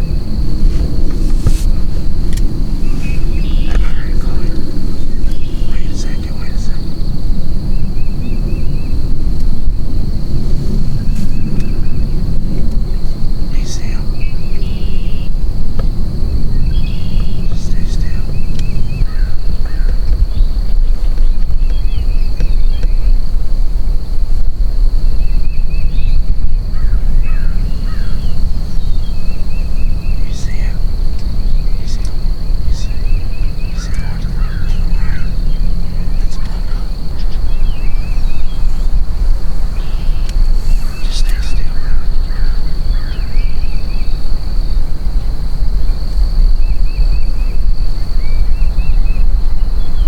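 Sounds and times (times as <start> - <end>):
falling bird calls: 0.0 - 9.2, 16.4 - 23.2, 25.2 - 50.0
birds chirping: 0.0 - 50.0
high-pitched insect drone: 0.0 - 50.0
wind buffeting microphone: 0.0 - 50.0.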